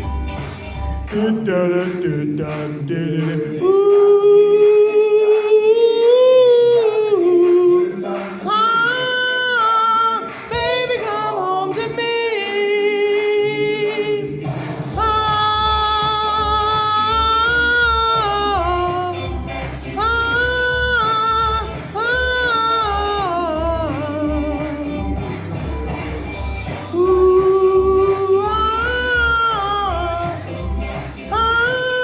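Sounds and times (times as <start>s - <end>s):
backing track with pulsing bass beat: 0.0s - 4.0s, 4.6s - 32.0s
singer holding wordless gliding notes: 1.1s - 32.0s.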